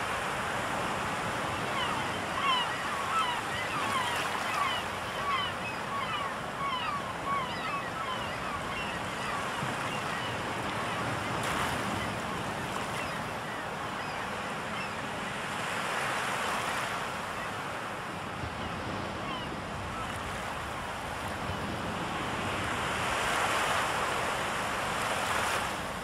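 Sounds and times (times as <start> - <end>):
surf washing on shore: 0.0 - 26.0
gulls calling: 0.9 - 24.4.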